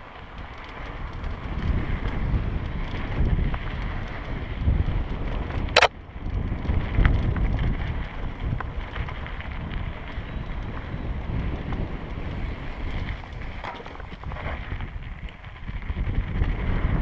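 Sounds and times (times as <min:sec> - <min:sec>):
bike clicks and rattles: 0:00.0 - 0:17.0
bike tyres on dirt: 0:00.0 - 0:17.0
wind buffeting microphone: 0:00.0 - 0:17.0.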